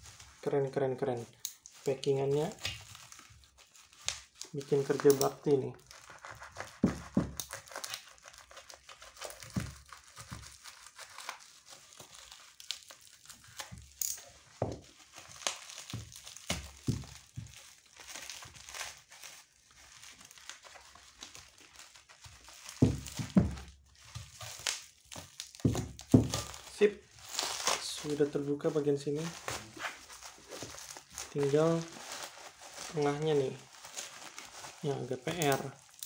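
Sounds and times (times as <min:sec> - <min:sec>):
bubble wrap crinkling: 0:00.0 - 0:36.0
packing tape tearing: 0:01.3 - 0:28.2, 0:29.1 - 0:36.0.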